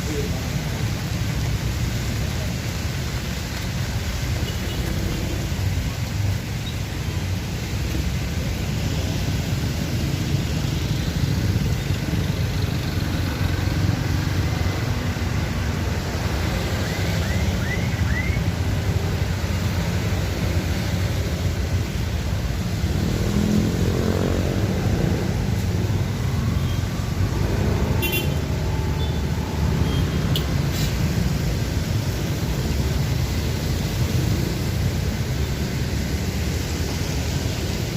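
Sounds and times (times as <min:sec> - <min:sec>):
traffic engines rumbling: 0:00.0 - 0:37.9.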